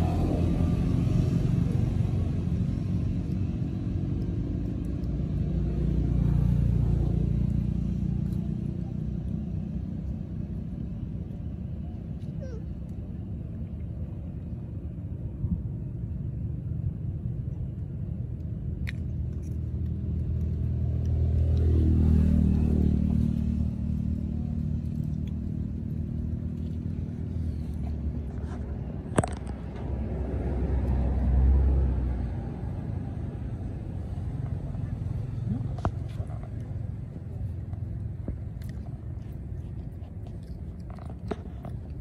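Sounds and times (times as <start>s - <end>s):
passing vehicle engine rumble: 0.0s - 42.0s.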